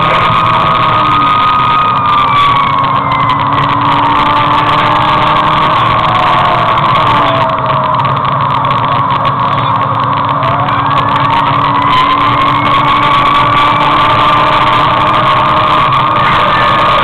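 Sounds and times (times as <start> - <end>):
engine and road drone: 0.0 - 17.0
high whine: 0.0 - 17.0.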